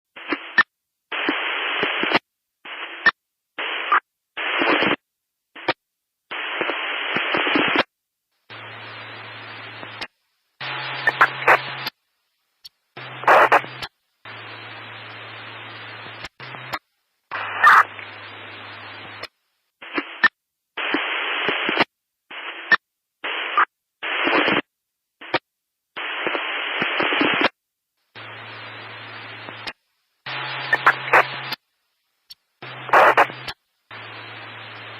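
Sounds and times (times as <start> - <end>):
static hiss: 0.1 - 34.9.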